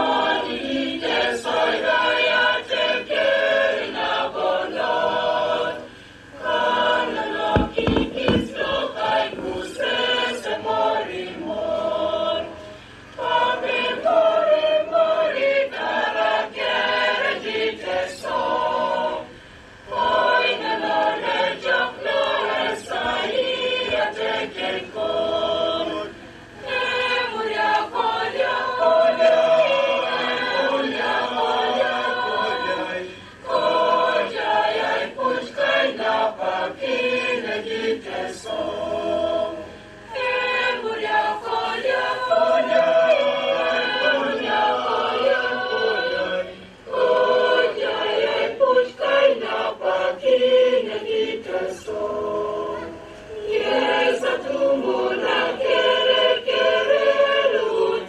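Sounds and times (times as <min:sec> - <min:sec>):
crowd singing together: 0:00.0 - 0:58.0.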